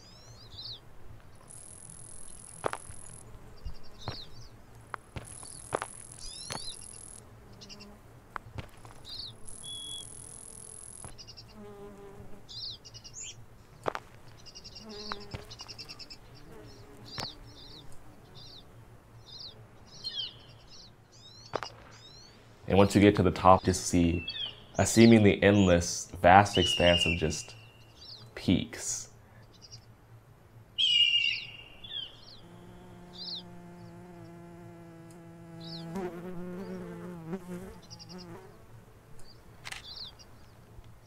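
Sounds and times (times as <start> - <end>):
small birds chirping: 0.0 - 30.0, 30.8 - 38.5, 39.1 - 41.0
insects buzzing: 0.0 - 40.6.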